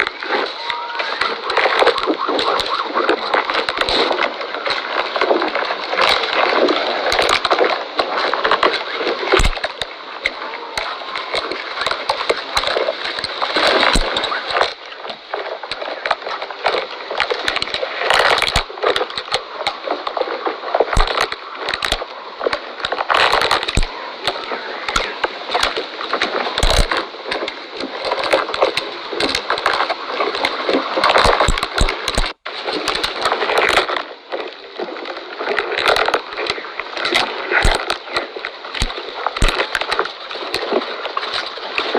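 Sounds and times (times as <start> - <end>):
camel chewing cactus: 0.0 - 41.9.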